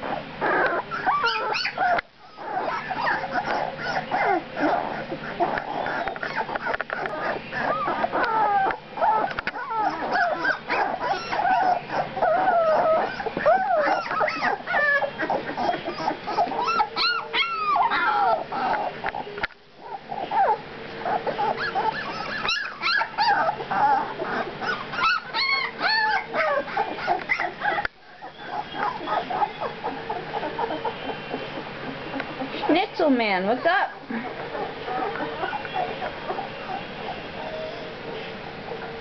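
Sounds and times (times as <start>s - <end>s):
puppies whimpering: 0.0s - 39.0s.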